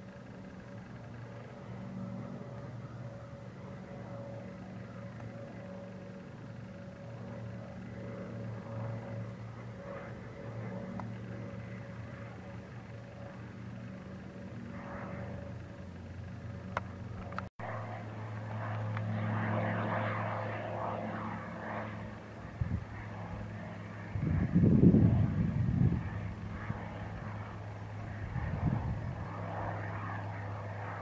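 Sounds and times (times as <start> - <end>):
propeller engine droning: 0.0 - 31.0.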